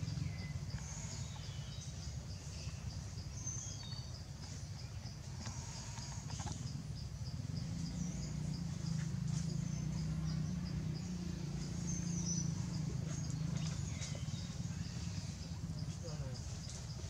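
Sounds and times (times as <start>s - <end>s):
bird chirps: 0.0s - 17.0s
insects chirping: 0.0s - 17.0s.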